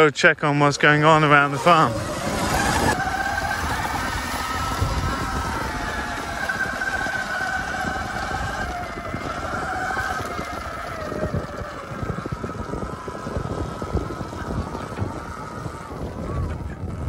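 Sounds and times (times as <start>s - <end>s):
electric motorbike motor whine: 0.0s - 17.0s
wind rumble on microphone: 0.8s - 17.0s.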